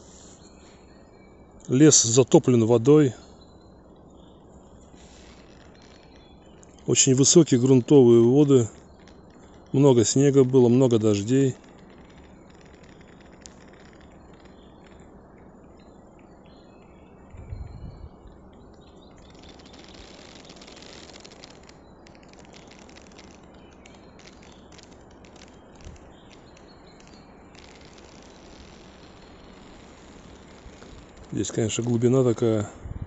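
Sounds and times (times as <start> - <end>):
low background hiss: 0.0 - 33.0.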